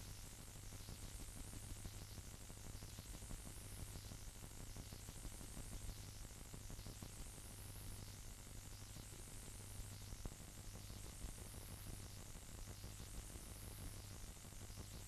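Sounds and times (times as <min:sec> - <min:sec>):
faint crackle: 0:00.0 - 0:15.0
playback hiss: 0:00.0 - 0:15.0.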